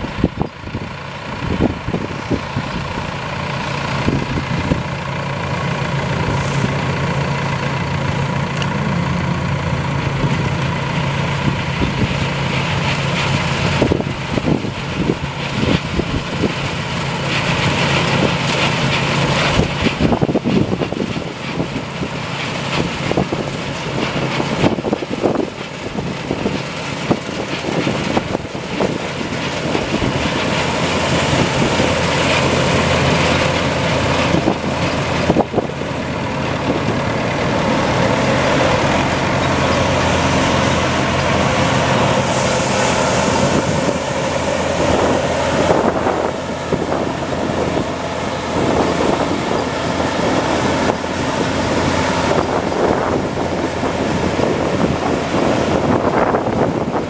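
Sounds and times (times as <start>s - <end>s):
combine harvester running: 0.0s - 57.0s
tractor running: 0.0s - 57.0s.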